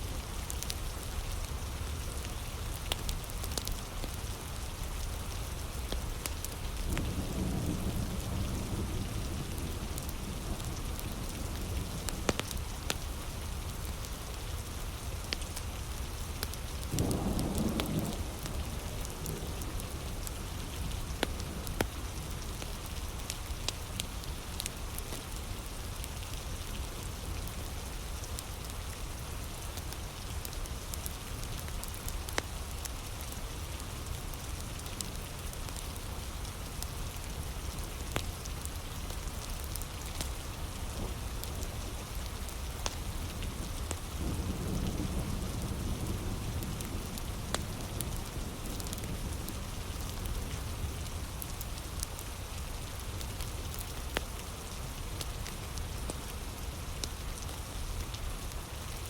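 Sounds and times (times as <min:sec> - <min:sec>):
heavy rain falling: 0:00.0 - 0:59.0
wood fire crackling: 0:00.1 - 0:08.7, 0:09.4 - 0:59.0.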